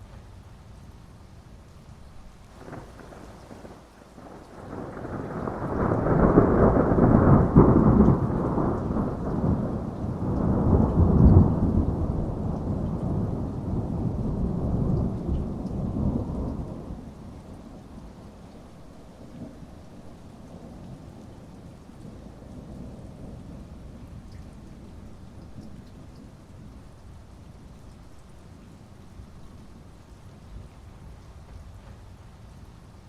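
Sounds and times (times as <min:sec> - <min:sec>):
heavy rain: 0:00.0 - 0:33.0
rolling thunder rumble: 0:02.6 - 0:32.7.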